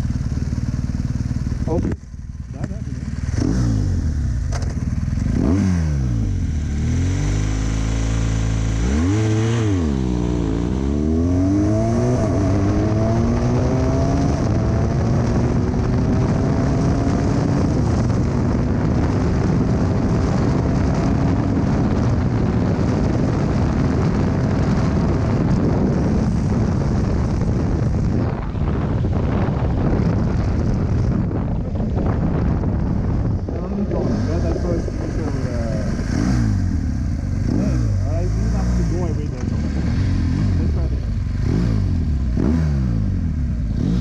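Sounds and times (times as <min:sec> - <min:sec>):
motorcycle engine accelerating: 0:00.0 - 0:44.0
wind rushing over microphone: 0:00.0 - 0:44.0.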